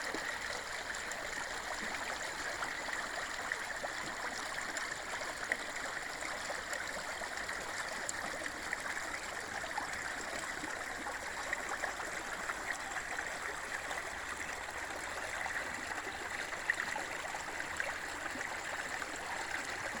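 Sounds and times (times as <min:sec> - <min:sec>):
stream babbling: 0:00.0 - 0:20.0.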